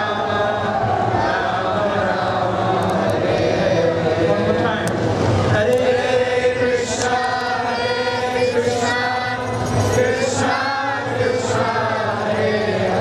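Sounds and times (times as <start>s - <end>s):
group of voices chanting: 0.0s - 4.3s, 5.5s - 13.0s.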